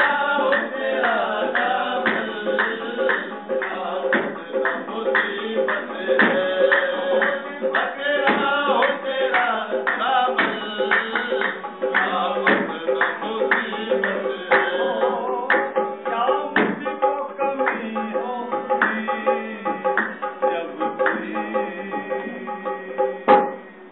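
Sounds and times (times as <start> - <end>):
hand-claps keeping the beat: 0.0 - 22.5
harmonium chords: 0.0 - 23.9
man singing: 0.0 - 23.9.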